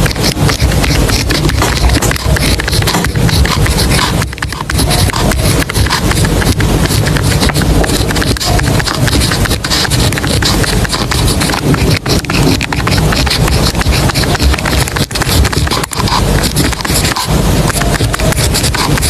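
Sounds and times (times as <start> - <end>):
quick clicks and scratching: 0.0 - 19.0.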